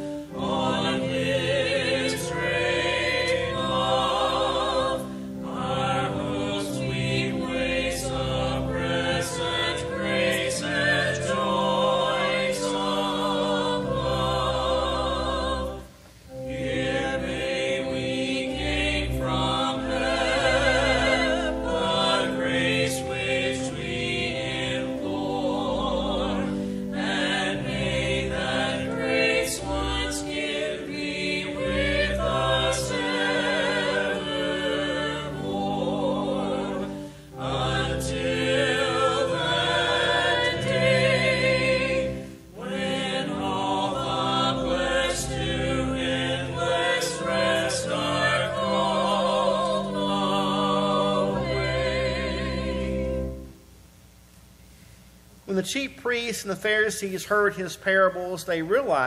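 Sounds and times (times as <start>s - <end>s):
choir singing a hymn: 0.0s - 53.6s
organ accompaniment: 0.0s - 53.9s.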